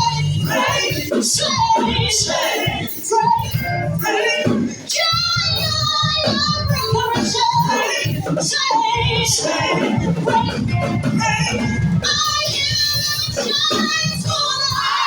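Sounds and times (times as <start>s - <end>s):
gospel singing voices: 0.0s - 15.0s.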